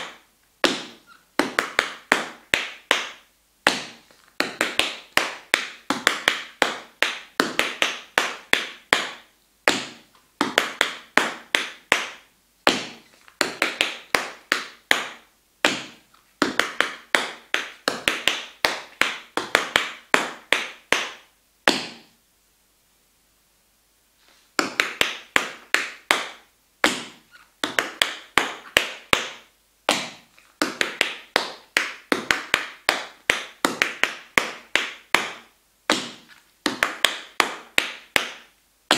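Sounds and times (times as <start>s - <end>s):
tap shoes on wooden floor: 0.0s - 22.1s, 24.6s - 38.5s.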